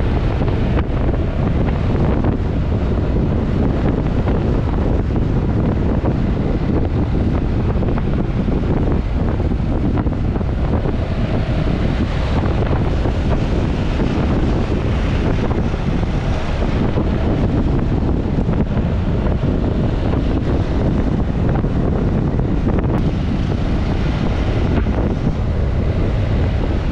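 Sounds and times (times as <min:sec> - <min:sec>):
scooter engine and tyre noise: 0:00.0 - 0:26.9
wind buffeting microphone: 0:00.0 - 0:26.9.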